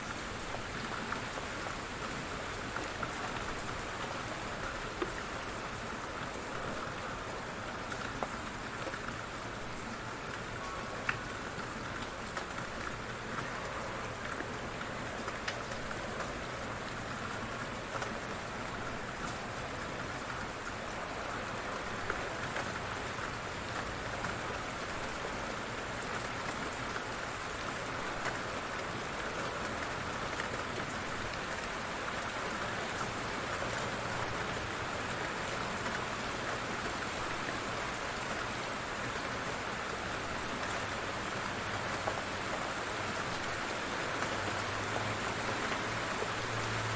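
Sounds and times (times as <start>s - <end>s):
light rain falling: 0.0s - 46.9s
raindrops ticking on surfaces: 0.0s - 46.9s.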